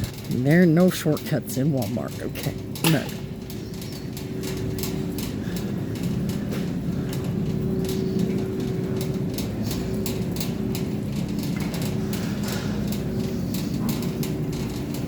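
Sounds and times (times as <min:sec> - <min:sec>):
light clicks and rattles: 0:00.0 - 0:15.0
steady low hum: 0:00.0 - 0:15.0.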